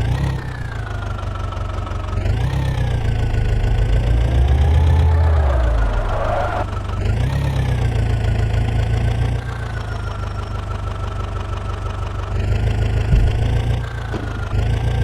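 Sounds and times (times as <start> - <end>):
diesel machinery engine running: 0.0 - 15.0.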